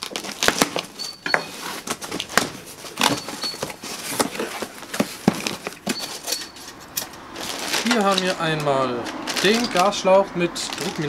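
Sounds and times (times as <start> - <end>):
cardboard crackling and scraping: 0.0 - 11.0.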